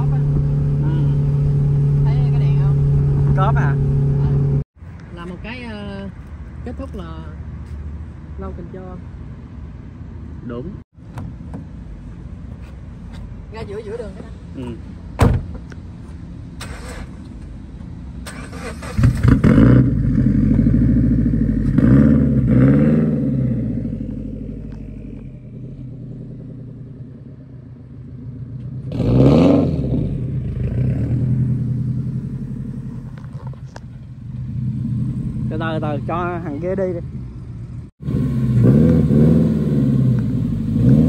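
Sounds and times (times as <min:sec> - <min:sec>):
sports car engine idling and revving: 0:00.0 - 0:41.0.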